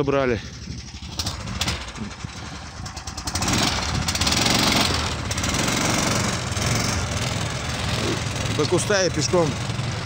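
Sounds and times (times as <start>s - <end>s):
tracked vehicle engine under load: 0.0s - 10.0s.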